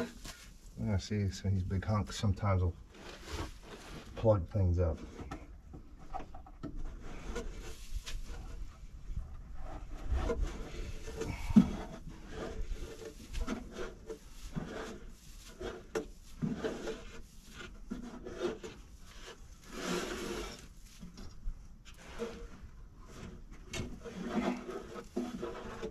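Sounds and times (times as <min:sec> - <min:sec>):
hands scraping sawdust: 0:00.0 - 0:05.2, 0:09.5 - 0:25.9.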